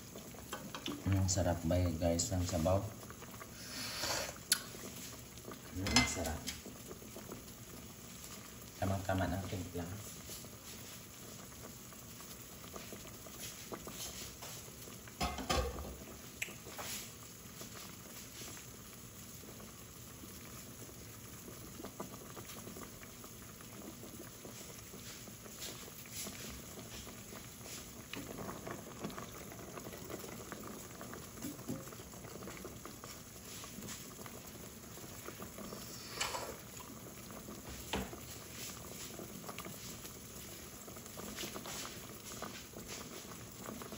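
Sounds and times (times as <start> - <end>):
soup bubbling in a pot: 0.0 - 43.9.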